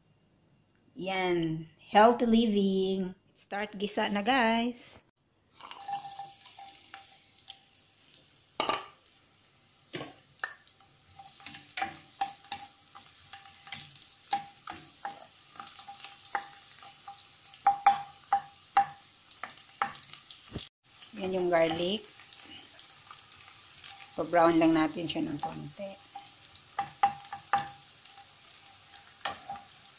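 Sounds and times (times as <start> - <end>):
garlic sizzling in hot oil: 5.5 - 29.9.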